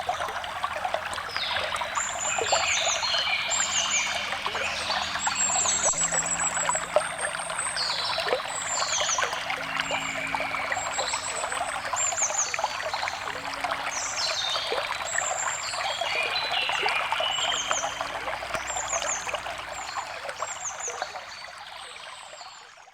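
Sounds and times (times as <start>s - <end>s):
water trickling and splashing: 0.0s - 22.9s
birds chirping: 1.3s - 20.0s.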